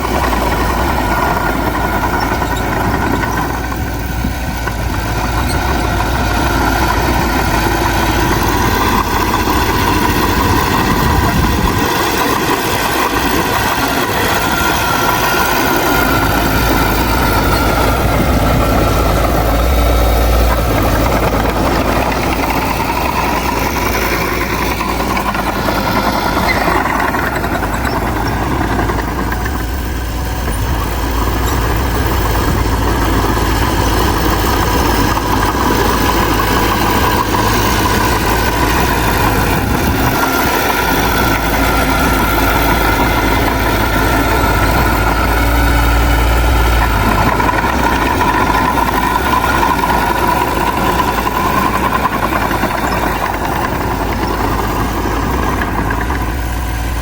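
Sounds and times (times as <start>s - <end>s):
diesel engine hum: 0.0s - 57.0s.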